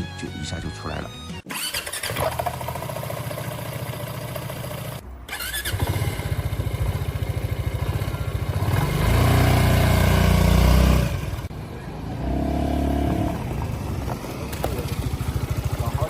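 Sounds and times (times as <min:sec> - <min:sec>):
scooter engine revving: 0:01.5 - 0:16.0.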